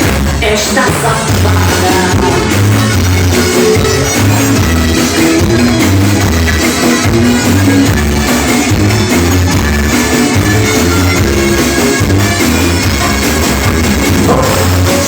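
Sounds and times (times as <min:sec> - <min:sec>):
brega dance music: 0:00.0 - 0:15.0
drum kit: 0:00.0 - 0:15.0
guitar: 0:00.0 - 0:15.0
repeating bass beat: 0:00.0 - 0:15.0.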